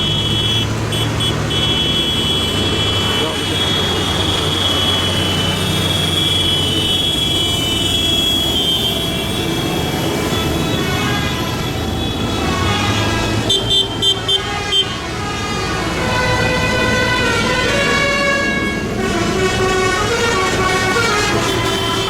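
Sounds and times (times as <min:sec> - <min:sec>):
tractors driving past: 0:00.0 - 0:22.0.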